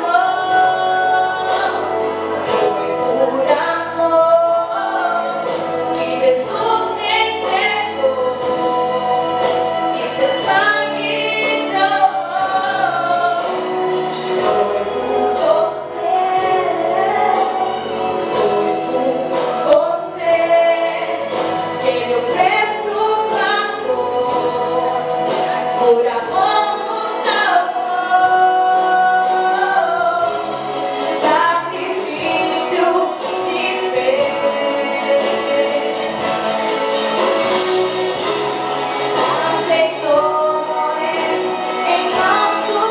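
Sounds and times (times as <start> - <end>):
group singing a hymn: 0.0 - 42.9
instrumental accompaniment: 0.0 - 42.9.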